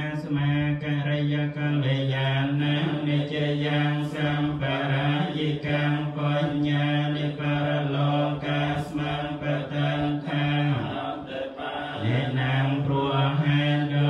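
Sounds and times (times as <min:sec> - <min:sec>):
monks chanting in unison: 0:00.0 - 0:14.0.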